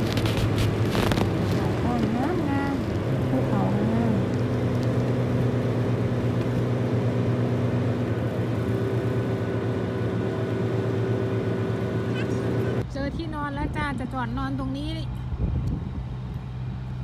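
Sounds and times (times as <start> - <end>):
vehicle engine and tyre hum: 0.0 - 17.0.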